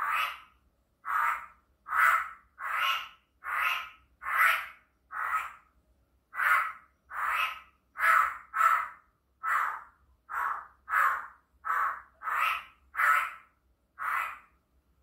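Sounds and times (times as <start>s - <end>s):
bird giving harsh caw-like calls: 0.0s - 0.5s, 1.1s - 5.7s, 6.4s - 14.5s.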